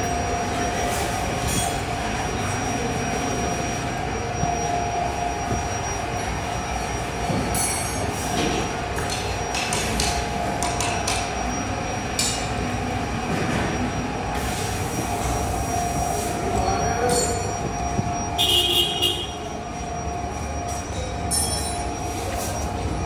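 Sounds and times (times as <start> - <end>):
machine drone: 0.0 - 23.0
steady hum: 0.0 - 23.0.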